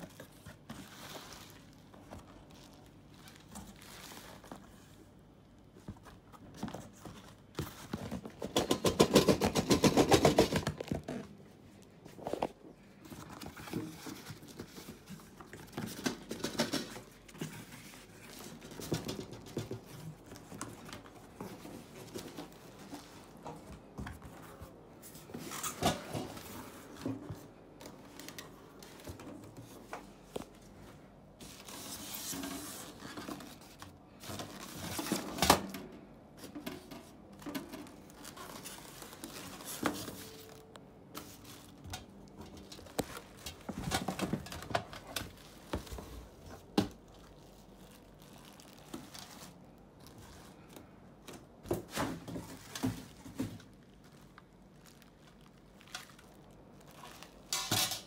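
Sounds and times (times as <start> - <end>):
cardboard rustling and scraping: 0.0 - 57.6.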